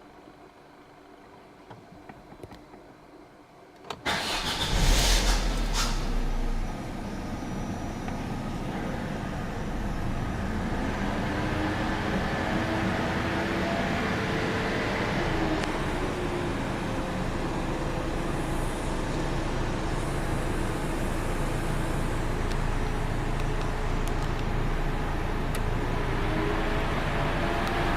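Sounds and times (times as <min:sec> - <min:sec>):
car engine starting and idling: 0:03.9 - 0:27.9.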